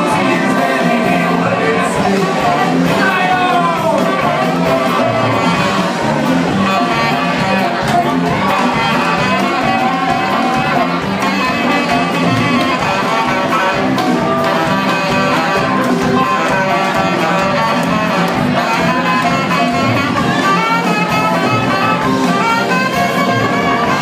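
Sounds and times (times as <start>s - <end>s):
harmonica: 0.0s - 24.0s
live blues-rock band: 0.0s - 24.0s.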